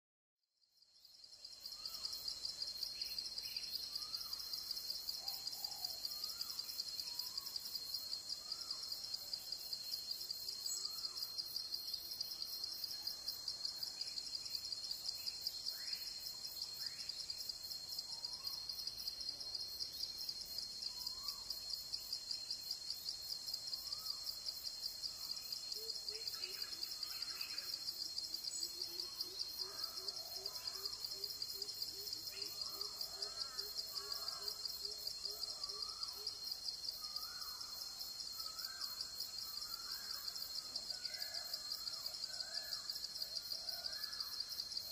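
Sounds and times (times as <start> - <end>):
high-pitched insect chorus: 0.8 - 44.9.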